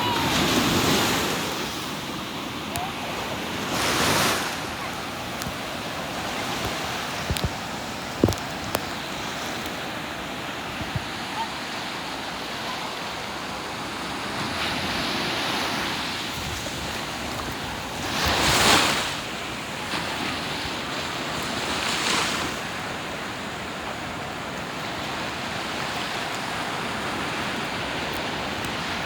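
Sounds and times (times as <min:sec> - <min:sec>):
ocean waves washing ashore: 0:00.0 - 0:29.0.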